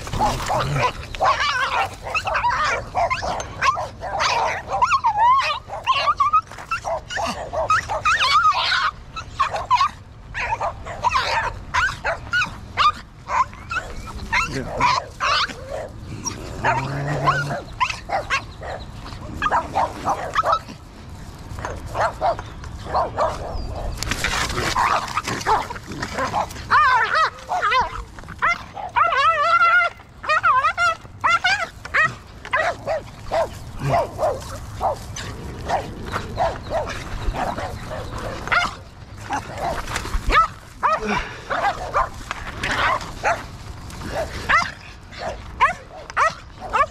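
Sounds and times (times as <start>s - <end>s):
small dogs barking: 0.0s - 20.9s, 21.6s - 46.9s.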